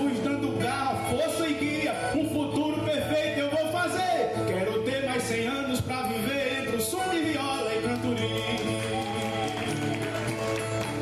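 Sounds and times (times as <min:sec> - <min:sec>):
man singing: 0:00.0 - 0:09.6.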